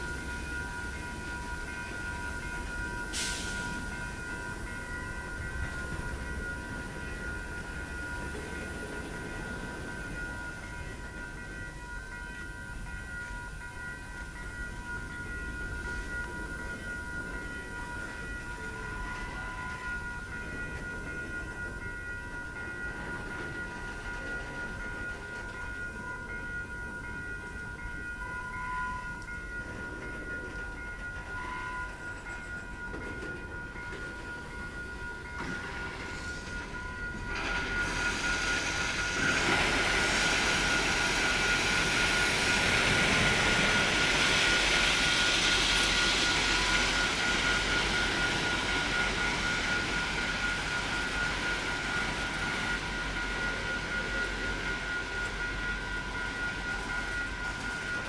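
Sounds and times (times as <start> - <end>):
train rumbling and rattling: 0.0 - 58.0.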